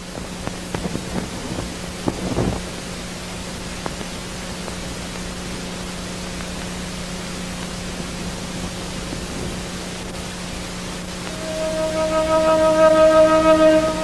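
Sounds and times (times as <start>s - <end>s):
constant low hum: 0.0s - 14.0s
steady hiss: 0.0s - 14.0s.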